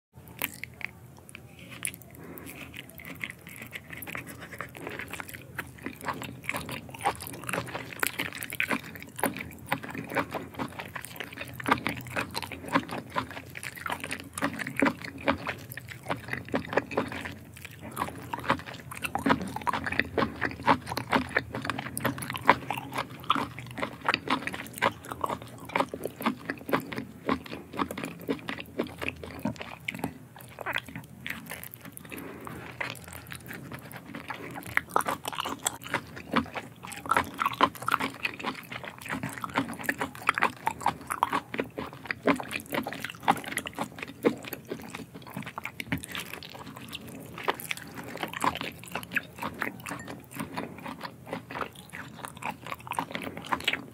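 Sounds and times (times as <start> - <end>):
person chewing wetly: 0.2 - 53.9.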